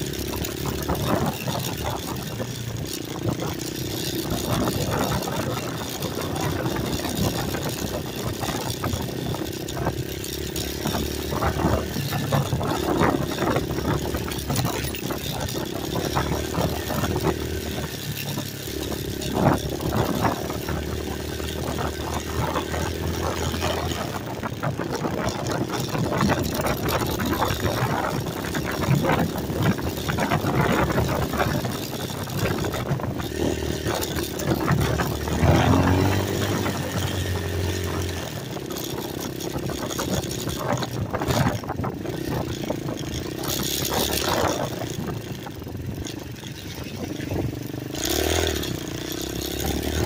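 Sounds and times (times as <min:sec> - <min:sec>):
knocks and crackles: 0:00.0 - 0:50.0
motorcycle engine running: 0:00.0 - 0:50.0.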